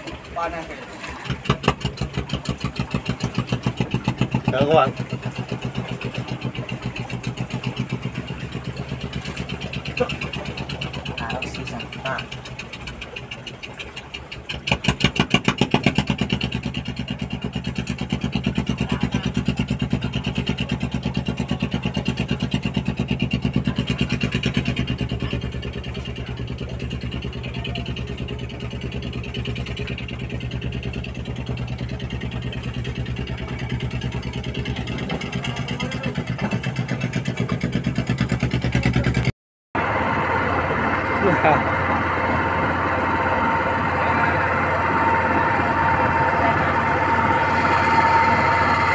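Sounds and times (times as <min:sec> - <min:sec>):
engine starting and running: 0:00.0 - 0:48.9.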